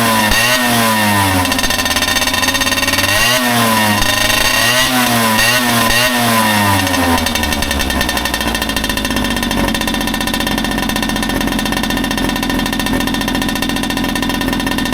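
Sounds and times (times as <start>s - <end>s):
moped engine revving and idling: 0.0s - 14.9s.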